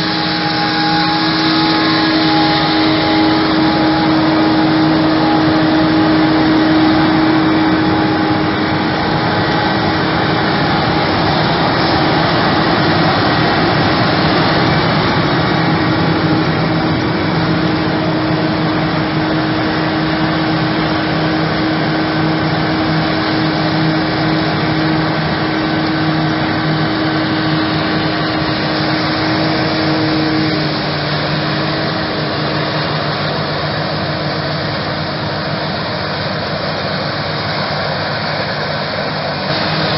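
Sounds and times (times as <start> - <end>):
harvester engine hum: 0.0 - 39.9
tractor engine: 0.0 - 39.9.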